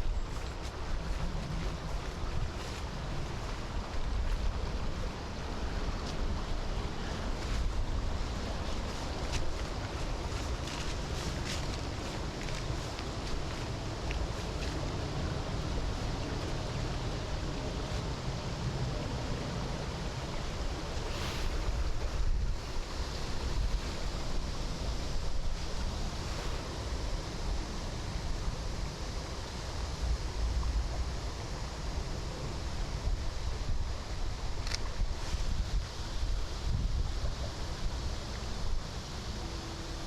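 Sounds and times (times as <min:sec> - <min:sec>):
soft rain: 0:00.0 - 0:40.0
wind buffeting microphone: 0:00.0 - 0:40.0
wind in trees: 0:00.0 - 0:40.0.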